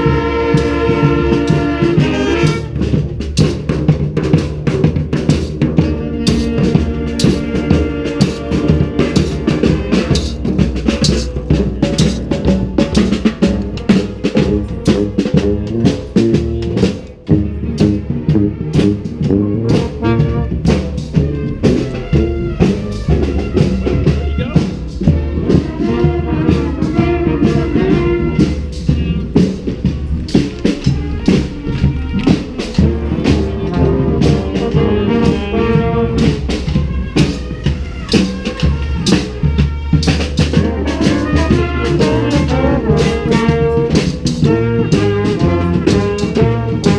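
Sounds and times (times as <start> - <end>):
brass instruments: 0.0 - 46.9
steady drum beat: 0.0 - 46.9.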